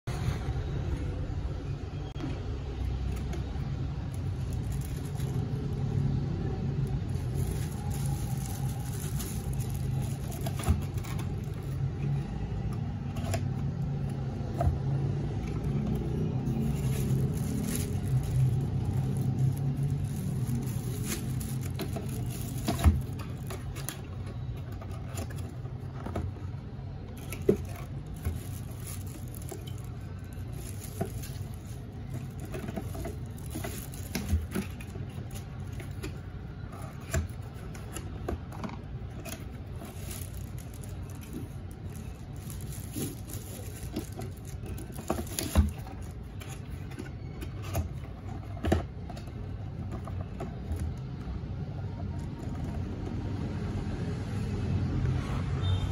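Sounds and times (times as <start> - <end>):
cardboard boxes being handled: 2.2 - 53.6
plastic bag rustling: 2.3 - 54.2.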